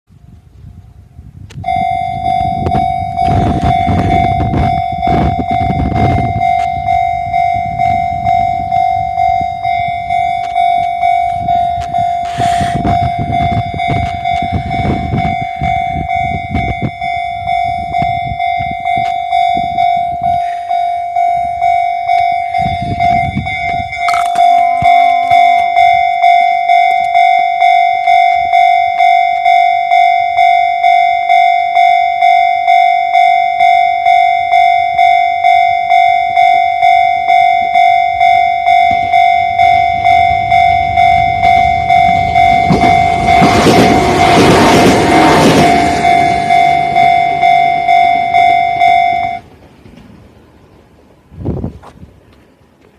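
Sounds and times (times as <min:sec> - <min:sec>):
train rumbling and clattering: 0:00.4 - 0:27.3, 0:37.3 - 0:52.9
electronic crossing bell dinging: 0:01.6 - 0:49.5.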